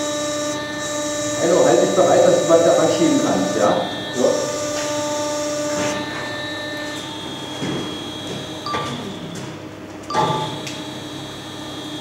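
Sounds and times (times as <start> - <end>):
furnace humming: 0.0 - 12.0.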